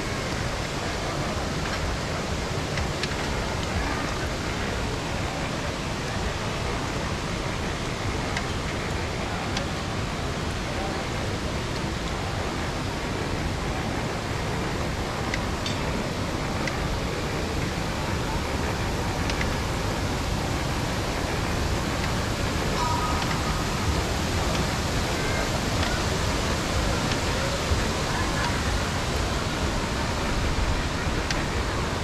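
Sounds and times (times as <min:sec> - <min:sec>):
low rushing noise: 0:00.0 - 0:32.0.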